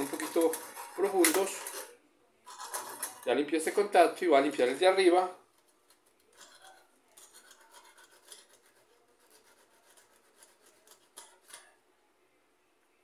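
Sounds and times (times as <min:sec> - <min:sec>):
small file scratching metal: 0:00.0 - 0:03.8, 0:04.6 - 0:11.8.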